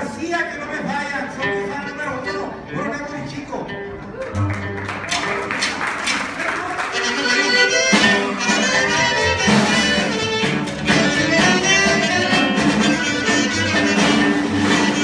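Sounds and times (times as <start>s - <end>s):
band playing regional music: 0.0s - 15.0s.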